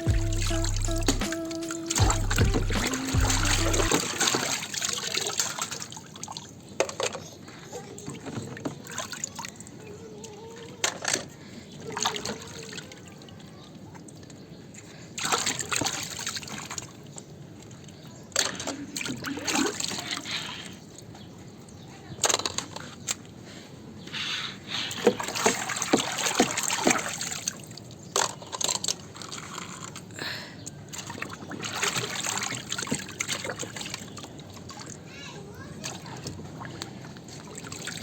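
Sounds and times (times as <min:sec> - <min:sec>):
water splashing and trickling: 0:00.0 - 0:38.0.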